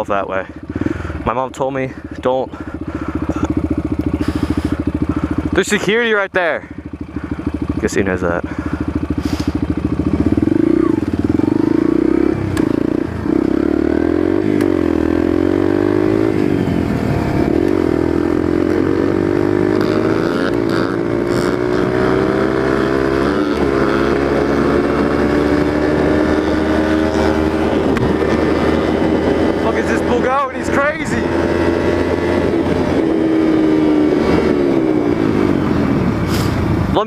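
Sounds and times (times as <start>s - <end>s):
dirt bike engine revving: 2.0s - 37.0s.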